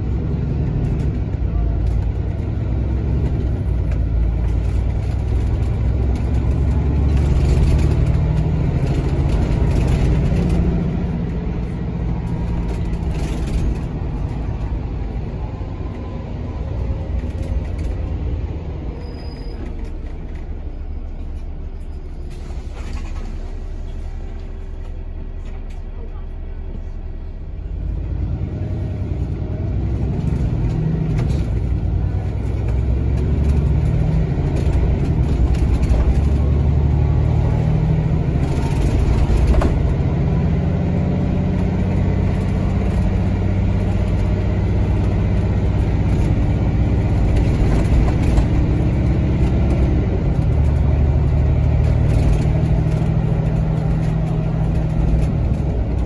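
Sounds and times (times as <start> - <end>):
bus diesel engine revving: 0.0 - 19.0, 19.6 - 56.0.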